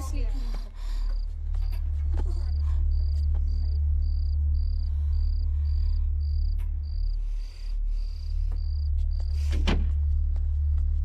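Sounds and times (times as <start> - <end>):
deep bass drone: 0.0 - 11.0.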